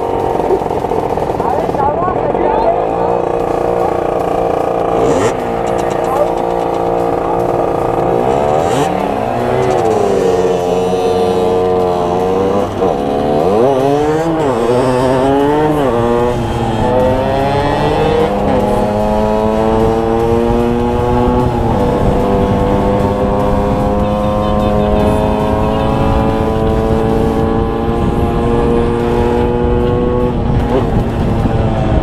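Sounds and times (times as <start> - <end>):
two-stroke motorbike engine revving: 0.0 - 32.0.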